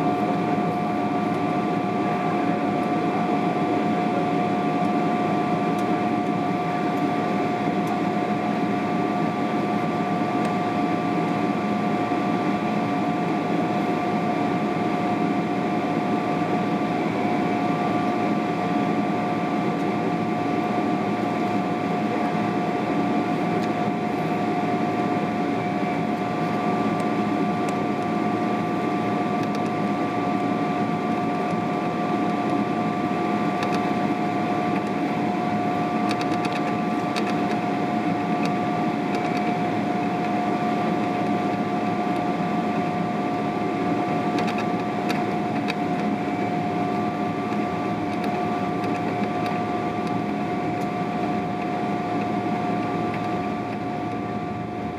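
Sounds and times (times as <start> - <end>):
airliner cabin air and engine noise: 0.0 - 54.9
steady whining tones: 0.0 - 54.9.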